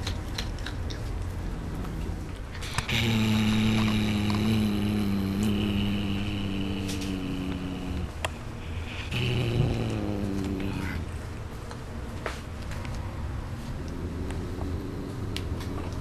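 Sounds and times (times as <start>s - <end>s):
cat growling while eating: 0.0s - 11.4s, 13.6s - 16.0s
chewing clicks: 0.0s - 11.9s, 12.6s - 13.1s, 13.8s - 16.0s.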